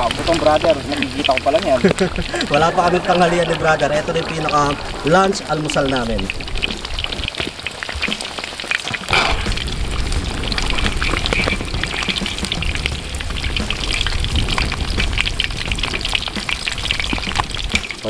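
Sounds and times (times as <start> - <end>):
meat deep-frying in hot oil: 0.0 - 18.0.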